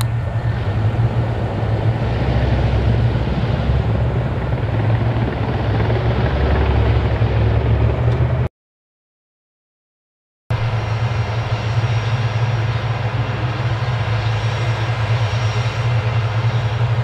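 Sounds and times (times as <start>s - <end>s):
vehicle engine loud drone: 0.0s - 8.5s, 10.5s - 17.0s.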